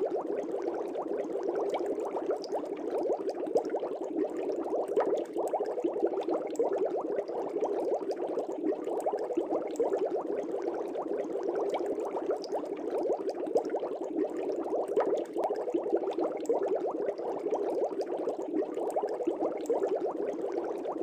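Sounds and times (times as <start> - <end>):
aquarium air bubbles in water: 0.0 - 21.0.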